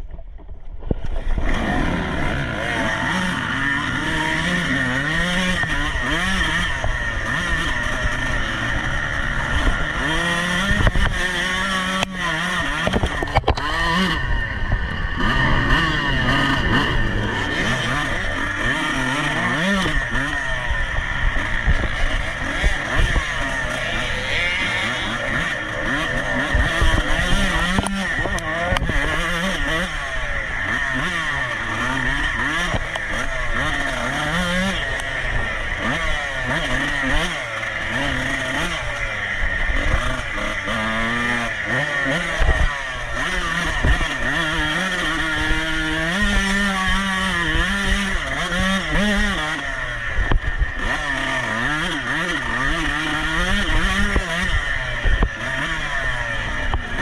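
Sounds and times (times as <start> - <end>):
dirt bike engine revving: 1.0 - 57.0.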